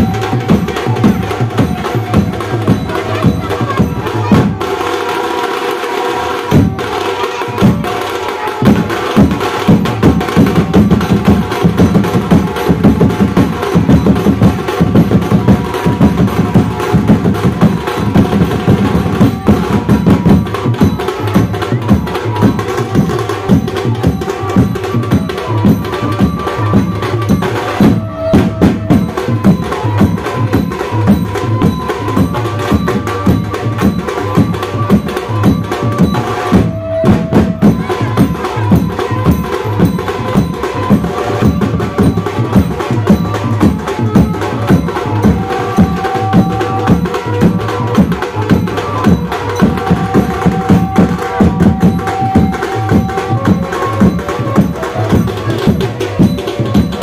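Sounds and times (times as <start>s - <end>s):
fast drum beat: 0.0s - 57.0s.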